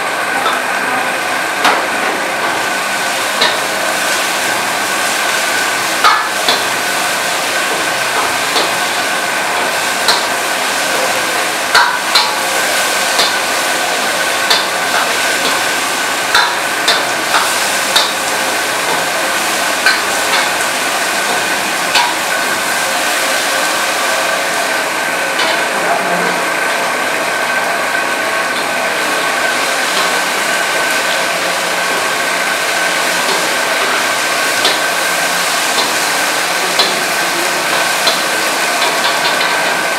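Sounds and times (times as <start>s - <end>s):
chicken sizzling in wok: 0.0s - 39.9s.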